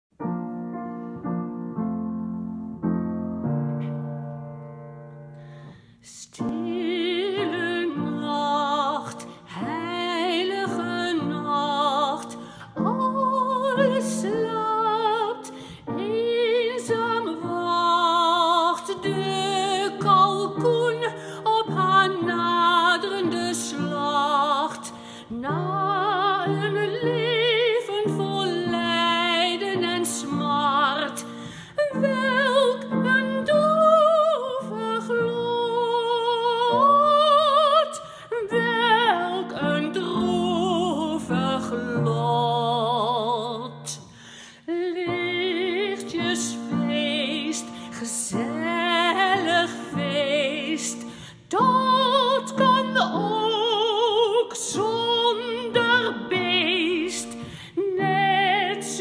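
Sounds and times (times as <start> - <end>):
piano accompaniment: 0.1 - 59.0
woman singing with vibrato: 6.0 - 59.0.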